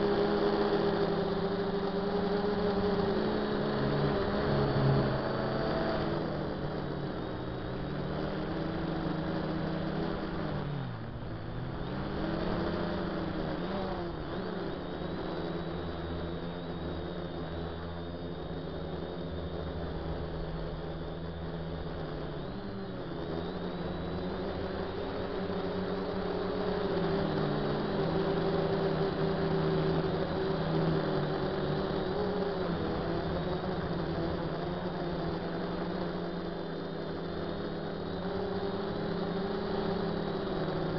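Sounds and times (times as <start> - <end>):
quadcopter motors buzzing: 0.0 - 40.9.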